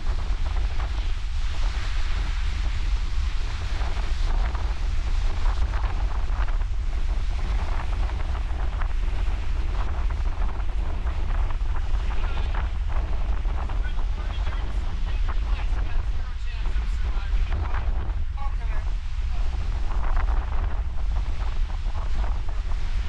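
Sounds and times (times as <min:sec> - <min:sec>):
ocean surf: 0:00.0 - 0:23.0
wind buffeting the microphone: 0:00.0 - 0:23.0.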